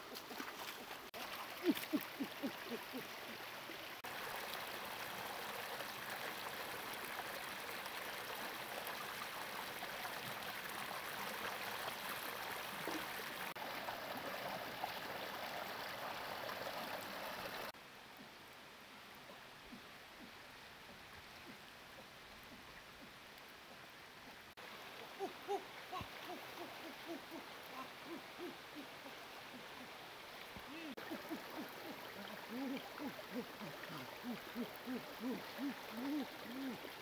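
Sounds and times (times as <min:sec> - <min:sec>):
stream water rushing over rocks: 0:00.0 - 0:17.8, 0:18.6 - 0:37.0.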